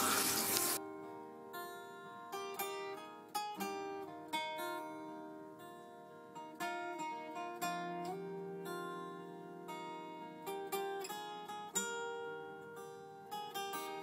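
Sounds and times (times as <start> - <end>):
plucked acoustic guitar melody: 0.0 - 14.0.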